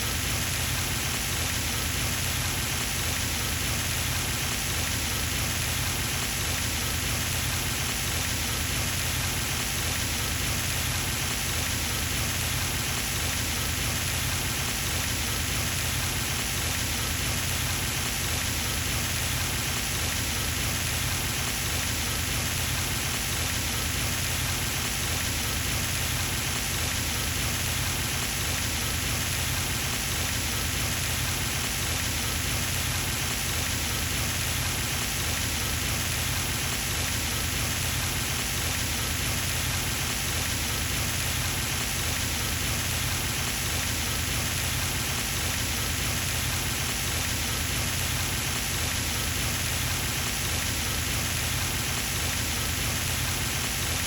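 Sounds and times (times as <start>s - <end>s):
fountain water splashing: 0.1s - 54.0s.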